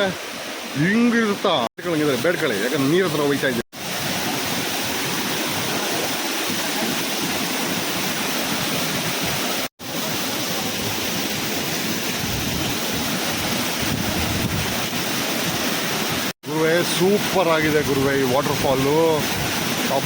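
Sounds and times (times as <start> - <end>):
waterfall crashing onto rocks: 0.0 - 20.0.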